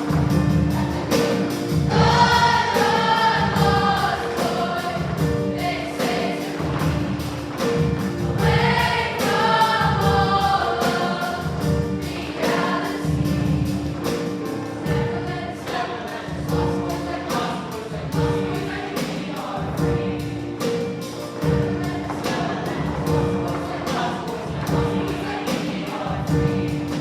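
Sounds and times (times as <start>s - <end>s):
backing music with steady beat: 0.0s - 27.0s
choir singing: 0.0s - 27.0s.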